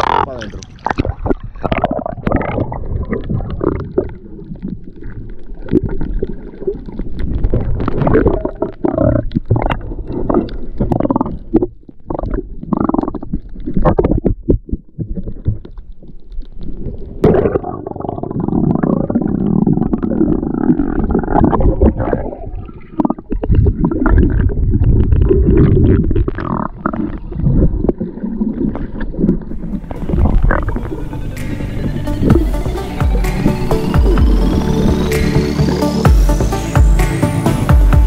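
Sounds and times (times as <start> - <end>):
underwater water rumbling and gurgling: 0.0 - 36.0.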